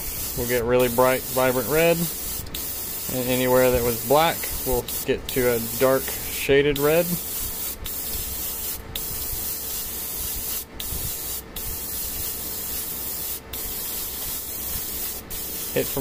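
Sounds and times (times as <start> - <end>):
airbrush spraying hiss: 0.0 - 16.0.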